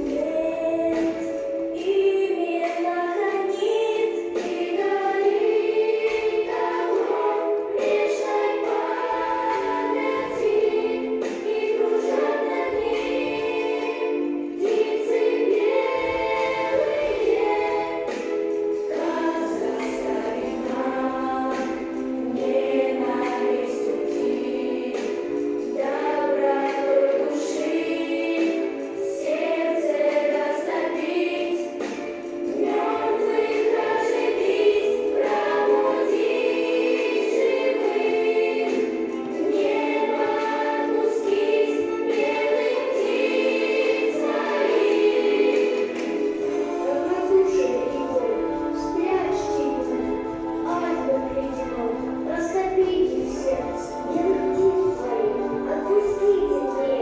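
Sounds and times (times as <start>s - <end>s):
children's choir singing: 0.0s - 57.0s
music: 0.0s - 57.0s.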